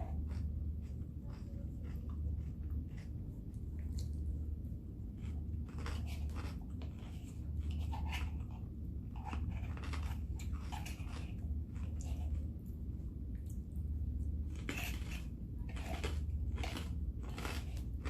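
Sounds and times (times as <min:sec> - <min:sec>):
chewing and crunching salad: 0:00.0 - 0:18.0
steady low hum: 0:00.0 - 0:18.0.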